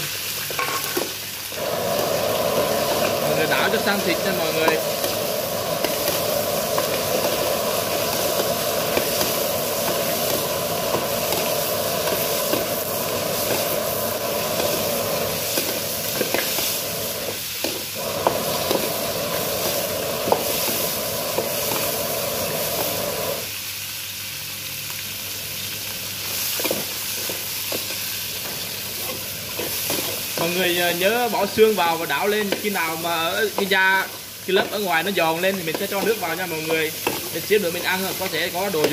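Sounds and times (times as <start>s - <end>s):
meat sizzling in hot oil: 0.0s - 38.9s.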